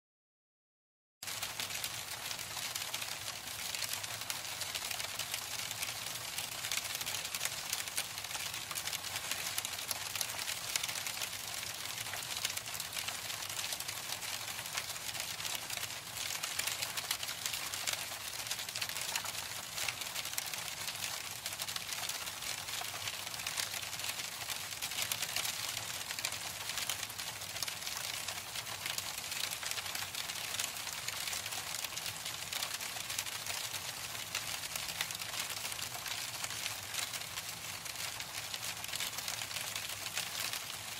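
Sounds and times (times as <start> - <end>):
hailstones pelting a hard surface: 1.3 - 40.9.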